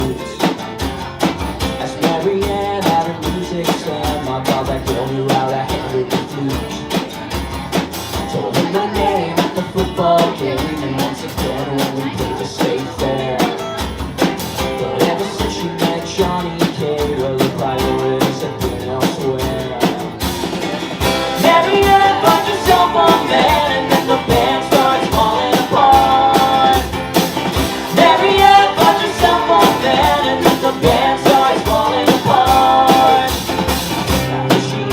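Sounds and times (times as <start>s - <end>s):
rock band playing live: 0.0s - 34.9s
person singing: 1.7s - 7.0s, 8.2s - 13.8s, 14.6s - 20.2s, 21.2s - 27.0s, 27.6s - 34.9s.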